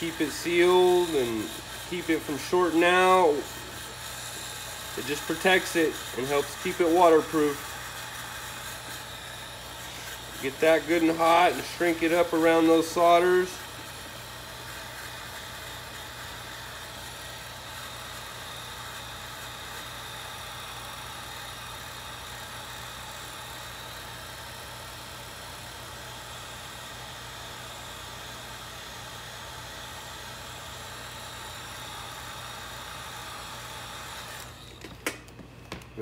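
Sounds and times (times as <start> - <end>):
heat gun fan whirring: 0.0 - 36.0.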